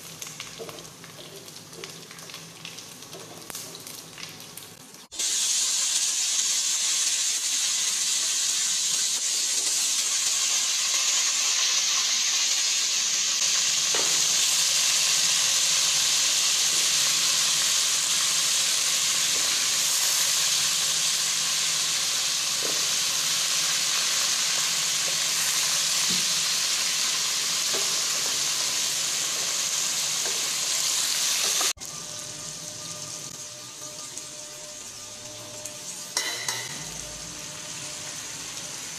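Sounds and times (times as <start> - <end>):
potatoes sizzling in hot oil: 0.0 - 38.9.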